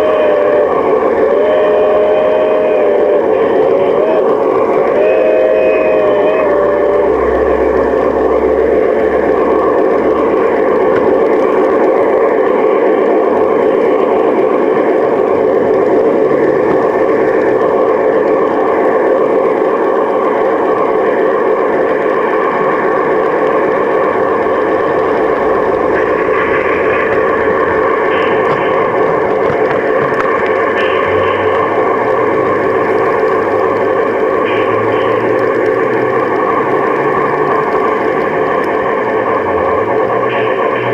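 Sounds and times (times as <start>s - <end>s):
model locomotive running on track: 0.0s - 40.9s.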